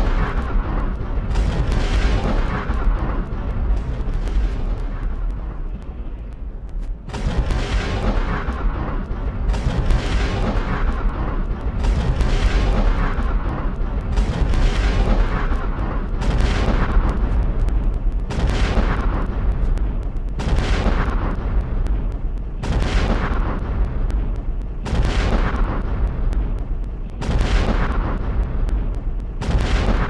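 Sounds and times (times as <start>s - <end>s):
slowed rifle shots booming: 0.0s - 5.9s, 7.1s - 30.0s
low rumble: 0.0s - 30.0s.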